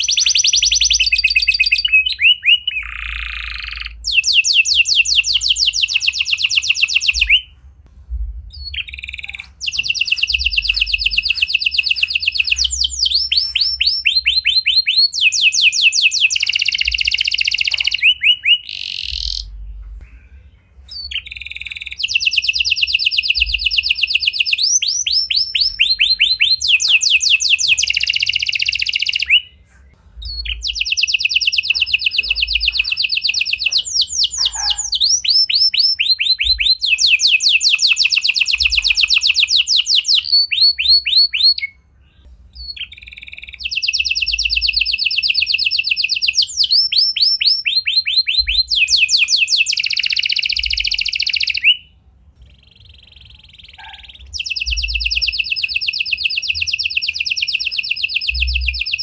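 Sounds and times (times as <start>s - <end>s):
canary singing rapid trills: 0.0s - 7.6s, 8.5s - 19.6s, 20.9s - 51.9s, 52.5s - 59.0s.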